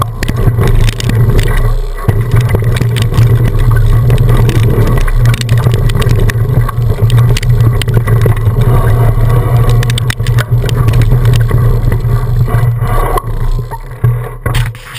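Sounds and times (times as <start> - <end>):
bike clicks and rattles: 0.0 - 14.9
wind rumble on microphone: 0.0 - 14.9.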